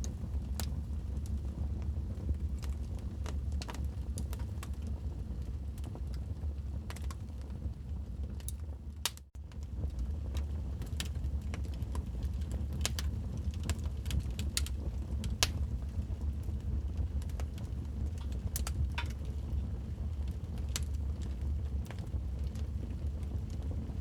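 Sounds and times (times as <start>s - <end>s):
wood fire pops and snaps: 0.0s - 7.5s, 8.3s - 24.0s
low rumble of burning fire: 0.0s - 24.0s.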